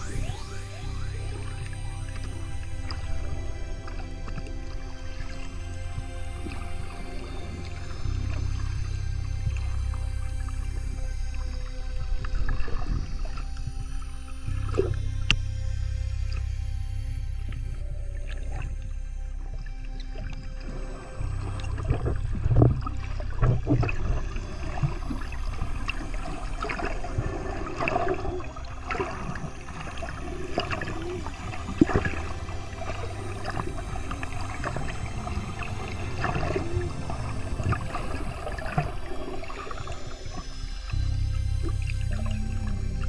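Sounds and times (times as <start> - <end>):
low rumble: 0.0 - 43.0
water sloshing and gurgling: 0.0 - 43.0.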